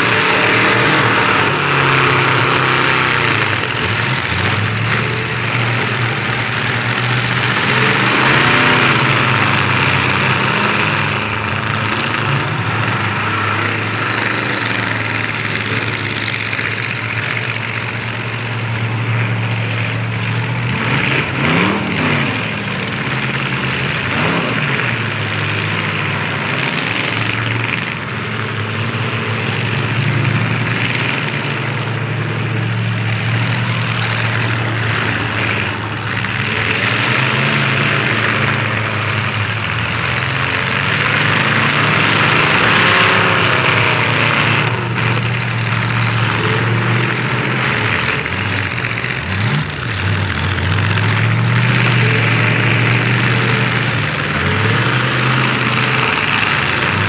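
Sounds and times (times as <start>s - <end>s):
car engines revving: 0.0s - 57.0s
cars crashing: 0.0s - 57.0s.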